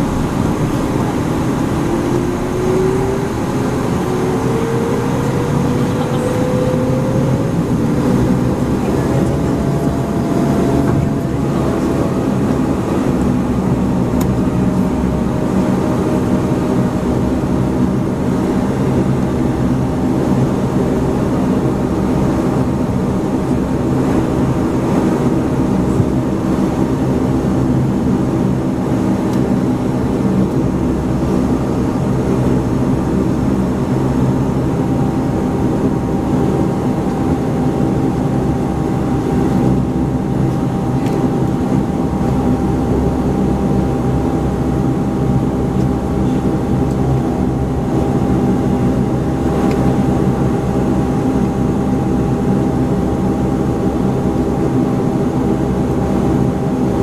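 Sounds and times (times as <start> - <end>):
turboprop cabin drone: 0.0 - 57.0.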